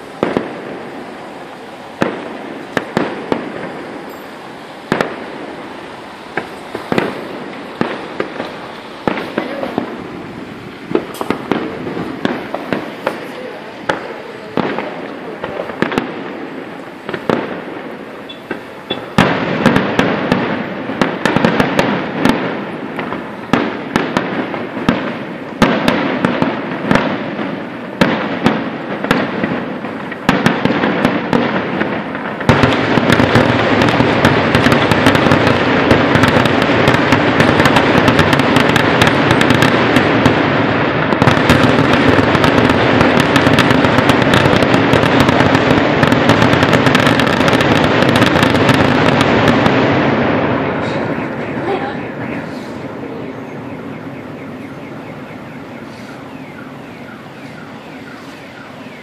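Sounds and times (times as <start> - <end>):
firework shells banging: 0.0 - 53.5
rapid firework barrage: 0.0 - 59.0.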